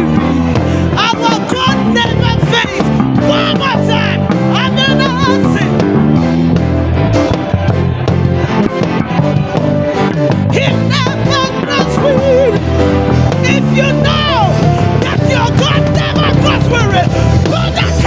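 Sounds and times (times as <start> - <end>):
electric bass line: 0.0 - 18.0
praise band music: 0.0 - 18.0.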